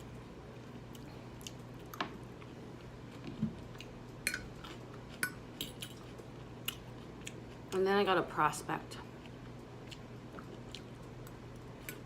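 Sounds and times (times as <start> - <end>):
quiet chewing: 0.5 - 7.8, 9.0 - 12.0.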